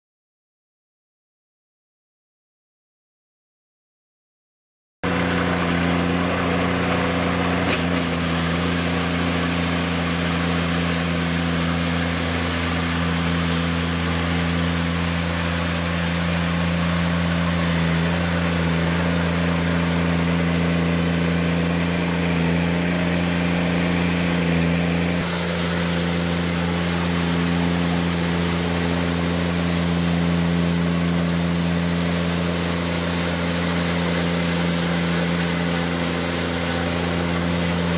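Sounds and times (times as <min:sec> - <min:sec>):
diesel engine running: 0:05.0 - 0:37.9
rotary broom brushing pavement: 0:05.3 - 0:37.9.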